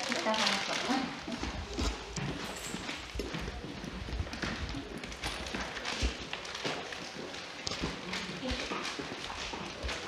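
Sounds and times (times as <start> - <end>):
plastic wrapper crackling: 0.0 - 10.0.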